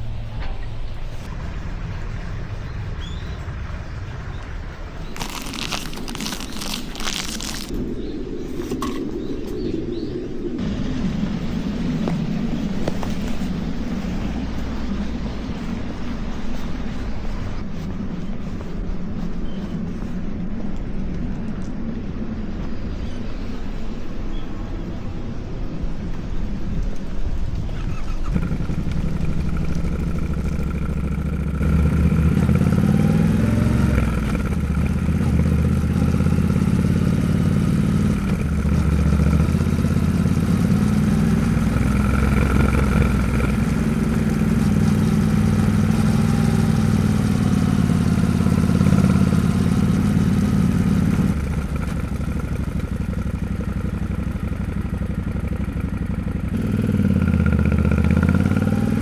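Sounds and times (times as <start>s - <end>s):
motorcycle engine running: 1.2s - 9.6s, 10.6s - 23.2s, 26.4s - 59.0s.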